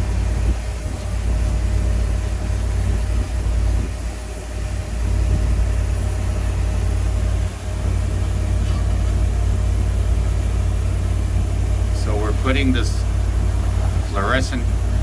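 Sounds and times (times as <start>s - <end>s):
faint continuous hum: 0.0s - 15.0s
low machinery rumble: 0.0s - 15.0s
wind: 0.0s - 15.0s.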